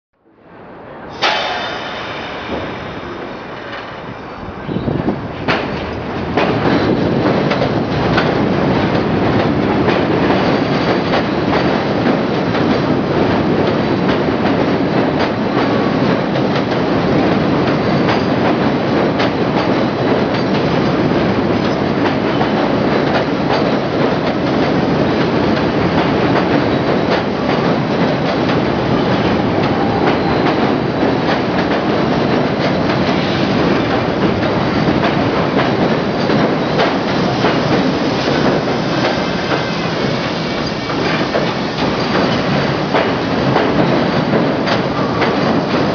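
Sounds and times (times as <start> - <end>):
subway train running: 0.2 - 45.9.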